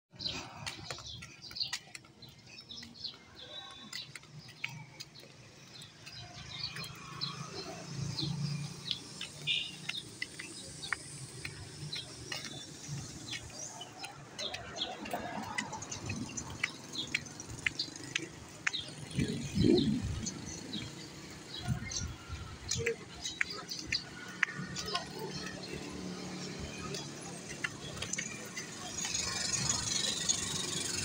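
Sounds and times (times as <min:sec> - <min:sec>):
birds chirping: 0:00.1 - 0:31.0.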